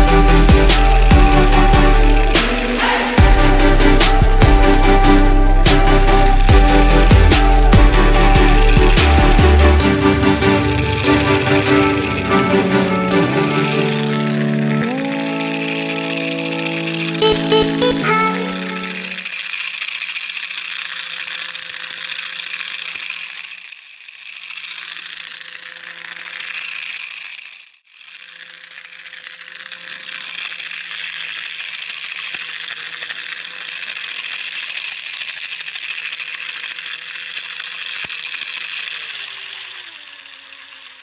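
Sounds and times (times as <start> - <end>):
toy train motor whirring: 0.0 - 41.0.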